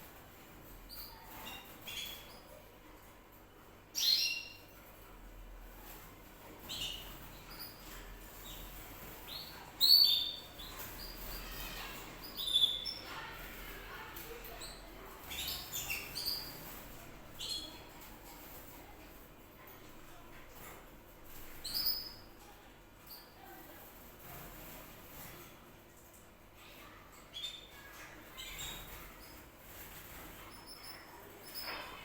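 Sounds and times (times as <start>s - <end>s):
canary chirping: 0.0s - 32.0s.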